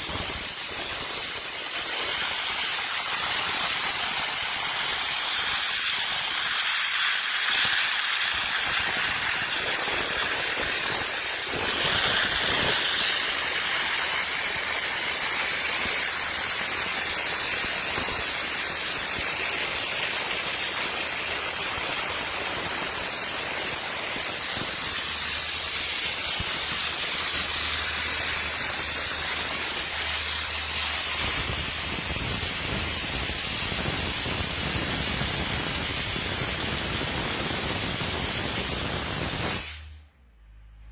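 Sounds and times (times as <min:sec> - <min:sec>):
dry ice blaster hissing: 0:00.0 - 0:40.1.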